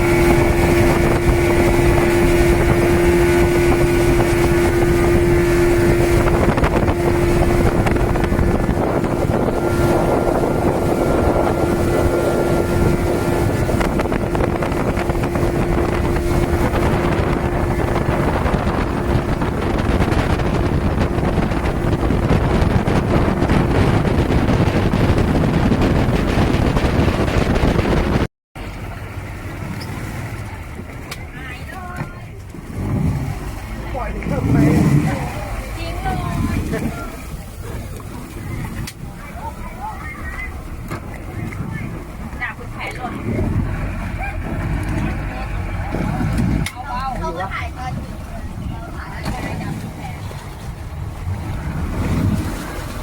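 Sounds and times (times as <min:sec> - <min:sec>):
speedboat engine running: 0:00.0 - 0:53.0
wind buffeting microphone: 0:00.0 - 0:53.0.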